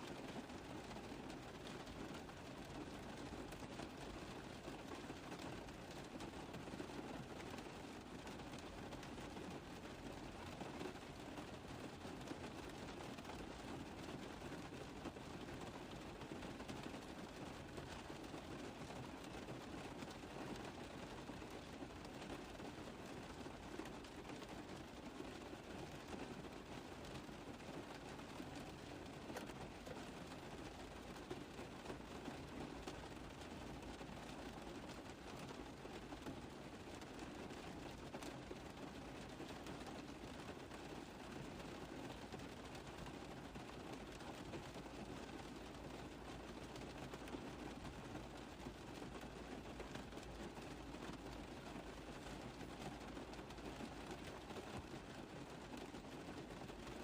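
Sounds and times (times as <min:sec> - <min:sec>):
rain on a car roof: 0:00.0 - 0:57.0.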